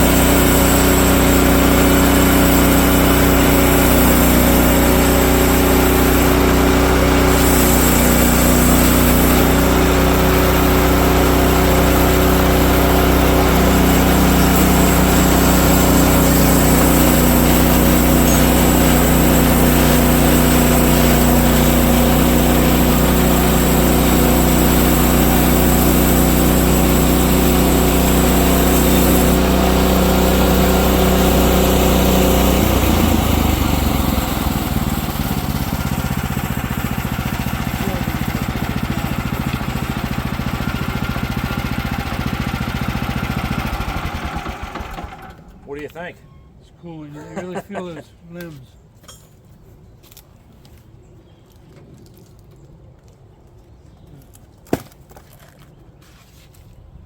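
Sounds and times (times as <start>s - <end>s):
gas engine running: 0.0s - 45.8s.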